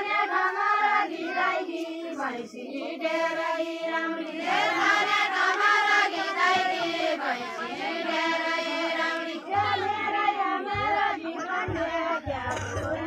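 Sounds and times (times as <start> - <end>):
women singing in chorus: 0.0 - 13.0.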